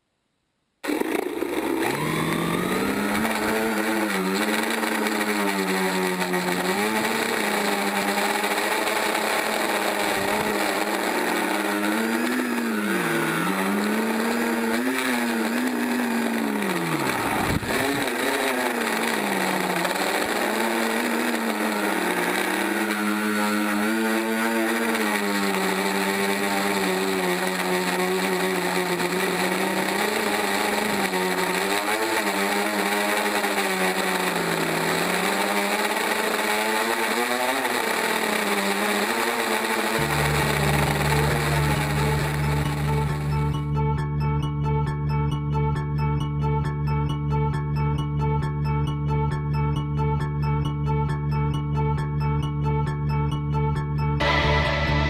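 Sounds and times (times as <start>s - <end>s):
drone motors whining: 0.8s - 55.0s.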